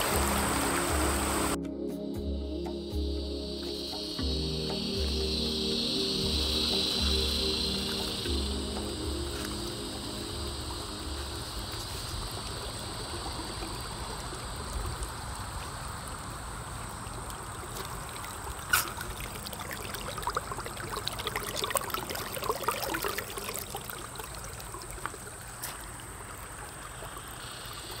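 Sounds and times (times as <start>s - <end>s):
creek rippling over stones: 0.0s - 1.6s, 4.6s - 28.0s
water splashes and gurgles: 0.0s - 1.6s, 5.9s - 28.0s.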